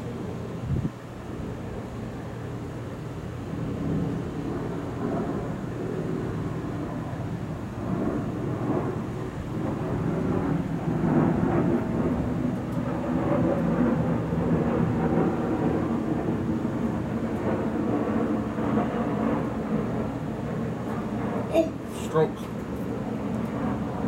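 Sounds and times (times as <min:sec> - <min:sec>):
rolling thunder: 0:03.4 - 0:24.0.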